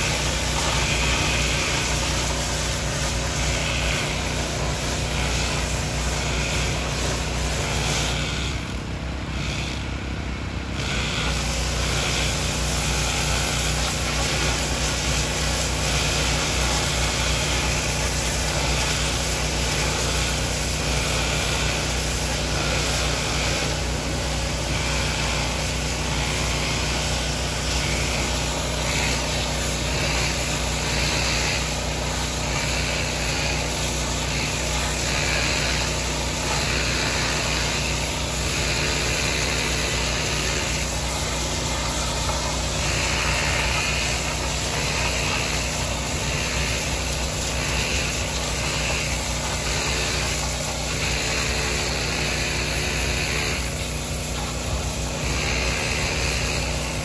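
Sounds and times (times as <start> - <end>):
pressure washer spraying stone: 0.0 - 57.0.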